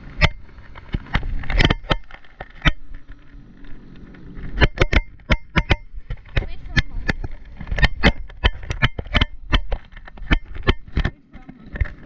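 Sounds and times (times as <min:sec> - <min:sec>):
low rumble of wind and motion: 0:00.0 - 0:12.0.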